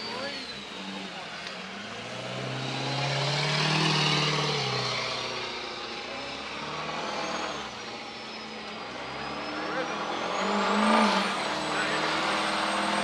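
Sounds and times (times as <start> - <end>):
truck engine revving: 0.0 - 13.0
tyres spinning on asphalt: 0.0 - 13.0.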